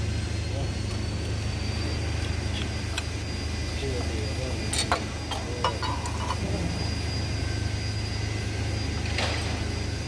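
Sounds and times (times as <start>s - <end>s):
machine drone: 0.0s - 10.0s.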